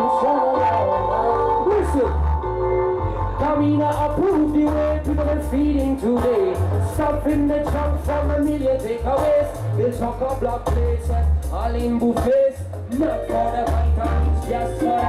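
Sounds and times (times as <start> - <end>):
man singing: 0.0 - 2.4, 3.3 - 15.0
deep pulsing bass line: 0.0 - 15.0
live reggae band playing: 0.0 - 15.0.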